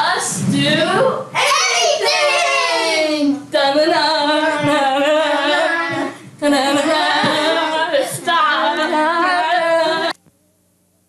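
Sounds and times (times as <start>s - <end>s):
girls singing wordless tune: 0.0s - 10.2s.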